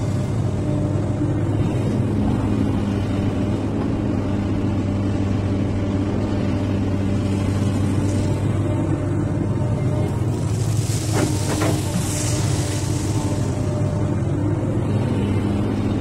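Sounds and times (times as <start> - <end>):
excavator diesel engine running: 0.0 - 16.0
hydraulics working: 0.0 - 16.0.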